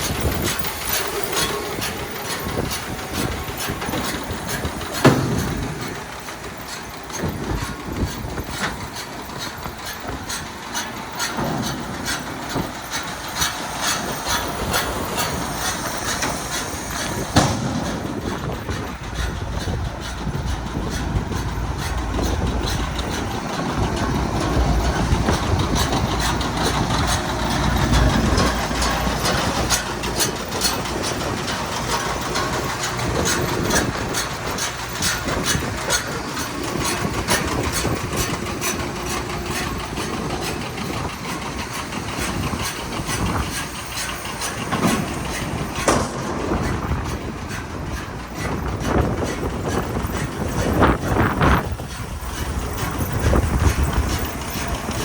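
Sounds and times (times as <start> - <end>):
round baler running: 0.0 - 55.0.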